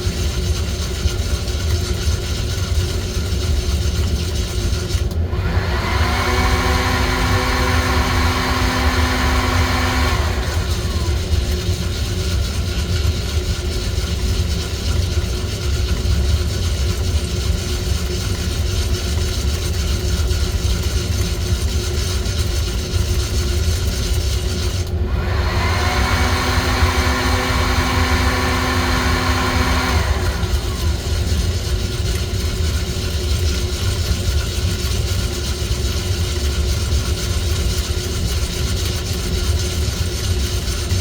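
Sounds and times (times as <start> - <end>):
fan motor whirring: 1.0 - 41.0.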